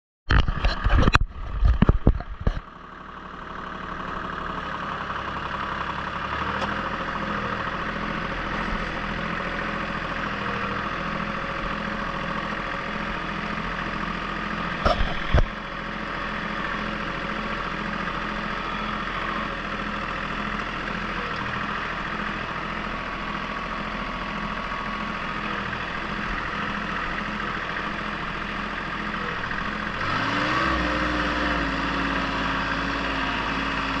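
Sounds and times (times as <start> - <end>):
tractor engine running: 0.3 - 34.0.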